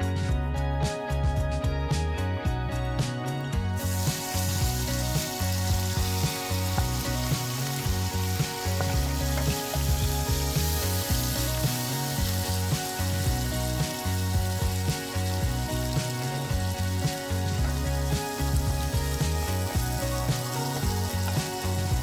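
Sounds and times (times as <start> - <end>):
background music with bass: 0.0 - 22.0
fish sizzling in hot oil: 3.0 - 22.0.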